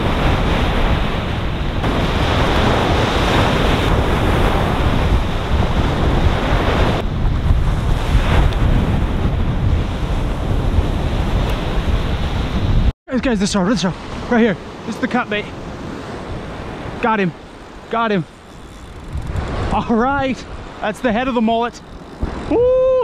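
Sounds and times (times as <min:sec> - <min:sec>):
wind buffeting microphone: 0:00.0 - 0:12.9, 0:15.5 - 0:23.0
ocean surf washing on beach: 0:00.0 - 0:23.0.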